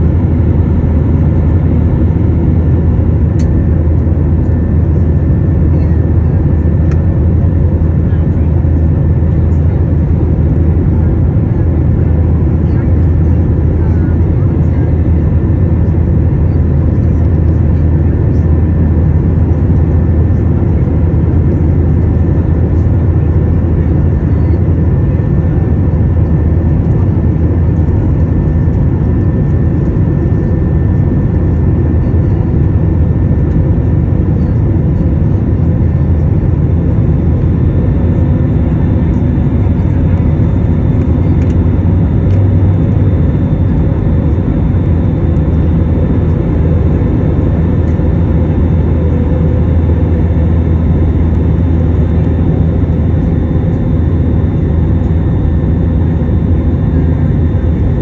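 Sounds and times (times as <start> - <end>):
faint steady whine: 0.0 - 58.0
jet engine cabin rumble: 0.0 - 58.0.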